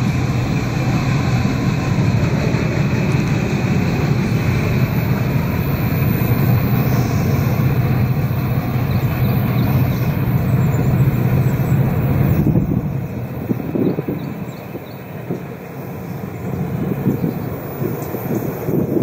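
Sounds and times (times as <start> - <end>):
train cars rolling on rails: 0.0 - 19.0.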